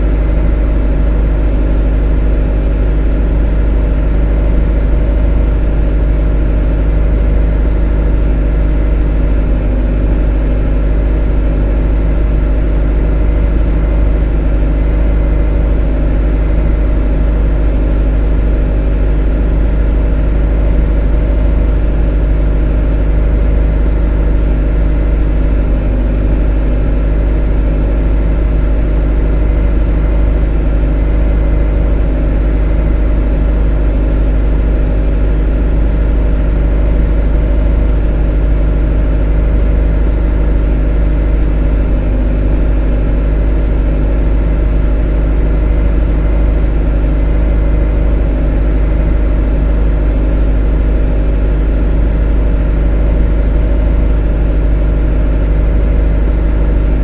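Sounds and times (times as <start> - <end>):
motor droning steadily: 0.0 - 57.0.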